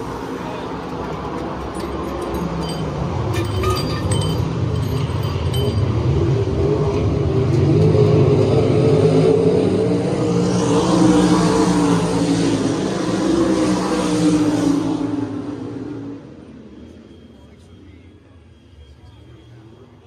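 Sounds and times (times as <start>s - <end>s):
racing car engines droning: 0.0s - 20.0s.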